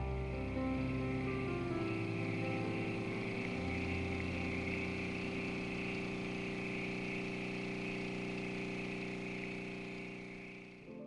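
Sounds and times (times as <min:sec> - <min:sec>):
espresso machine pump humming: 0:00.0 - 0:10.9.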